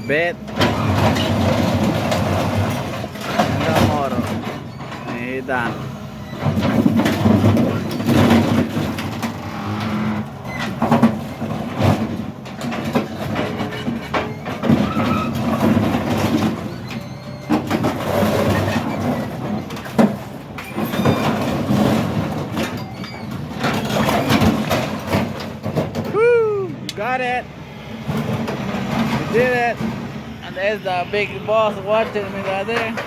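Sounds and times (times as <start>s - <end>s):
heavy machinery engine under load: 0.0s - 33.0s
loud metal clanks and bangs: 0.1s - 26.1s, 28.0s - 33.0s
metal scraping: 0.1s - 26.1s, 27.0s - 33.0s.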